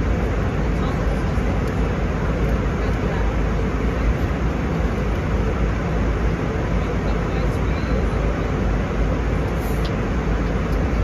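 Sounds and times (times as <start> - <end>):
airflow rush in cabin: 0.0 - 11.0
deep engine drone: 0.0 - 11.0.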